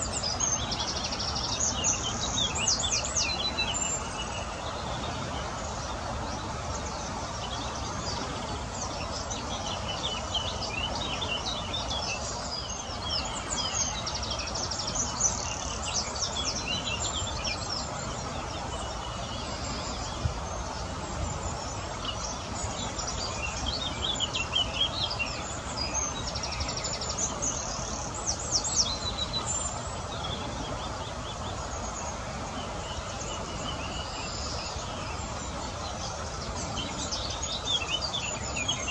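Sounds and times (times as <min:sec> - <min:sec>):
background hiss and rumble: 0:00.0 - 0:38.9
small birds chirping and trilling: 0:00.0 - 0:38.9.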